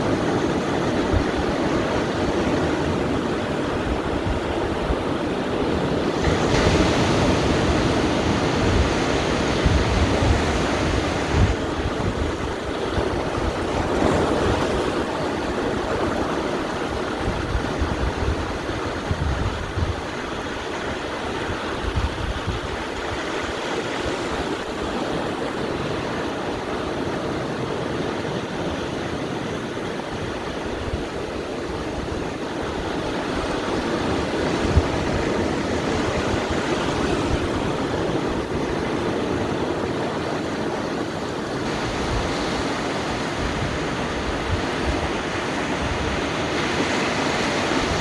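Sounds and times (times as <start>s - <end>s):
waves washing onto beach: 0.0s - 48.0s
wind on microphone: 0.0s - 48.0s.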